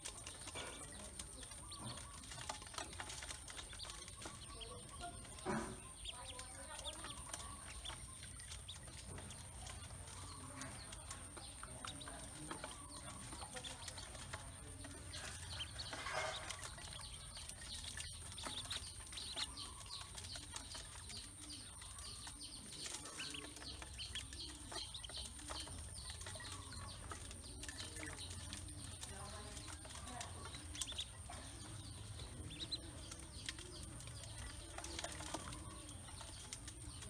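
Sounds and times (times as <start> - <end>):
bills pecking in metal basin: 0.0 - 37.0
ducklings peeping: 0.0 - 37.0.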